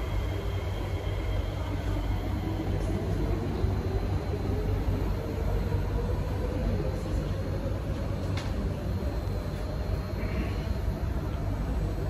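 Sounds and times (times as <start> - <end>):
train car low hum: 0.0 - 12.0.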